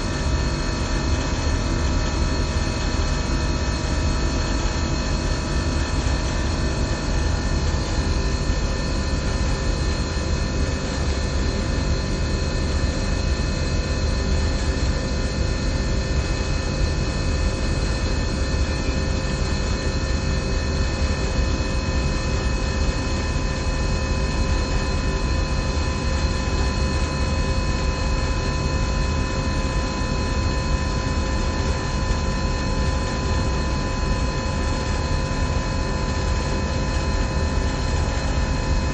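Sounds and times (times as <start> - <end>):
hvac equipment humming: 0.0 - 38.9.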